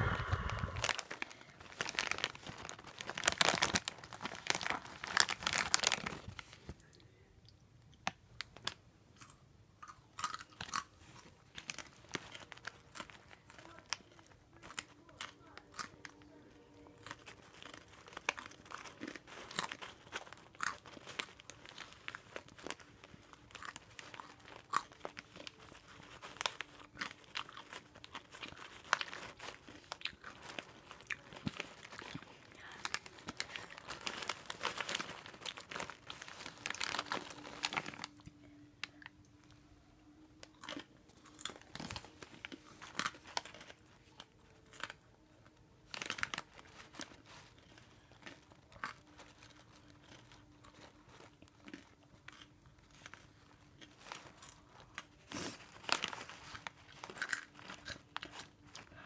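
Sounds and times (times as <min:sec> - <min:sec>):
crunching crispy snacks: 0:00.0 - 0:07.0, 0:08.0 - 0:39.5, 0:40.4 - 0:59.0.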